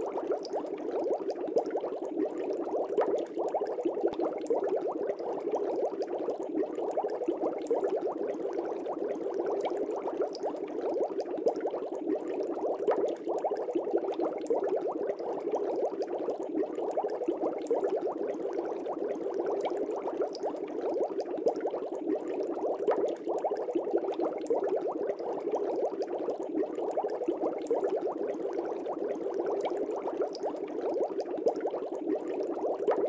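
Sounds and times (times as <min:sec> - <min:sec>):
aquarium air bubbles bubbling: 0:00.0 - 0:33.0.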